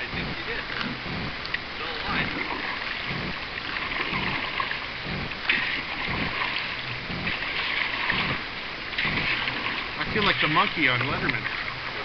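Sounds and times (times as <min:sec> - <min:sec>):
canoe paddles stroking water: 0:00.0 - 0:12.0
water rushing over rocks: 0:00.0 - 0:12.0.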